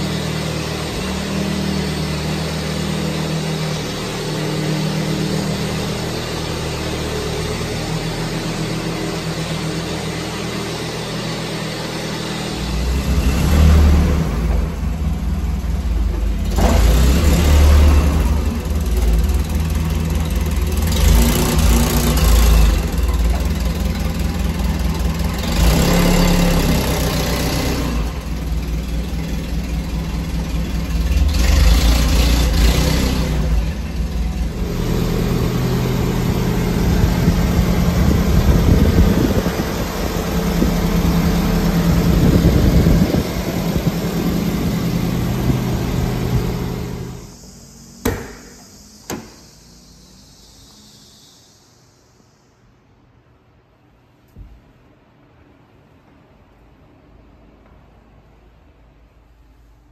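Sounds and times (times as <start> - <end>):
truck engine running: 0.0 - 51.5.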